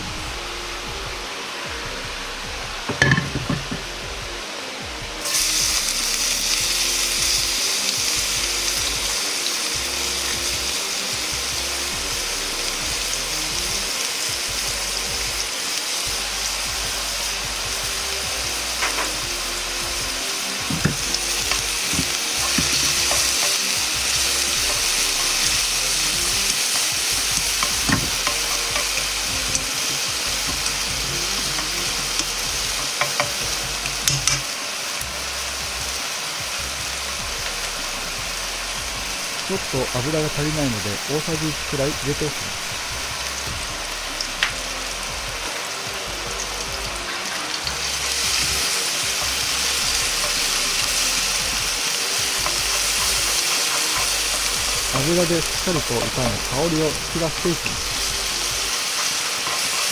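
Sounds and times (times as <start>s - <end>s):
onion sizzling in frying pan: 0.0s - 59.9s.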